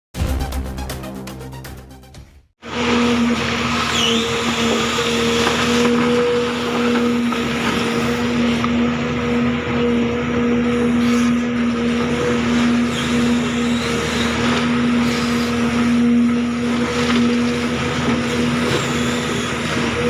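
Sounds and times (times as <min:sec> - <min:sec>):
excavator engine drone: 0:02.6 - 0:20.0
hydraulic whine: 0:02.6 - 0:20.0.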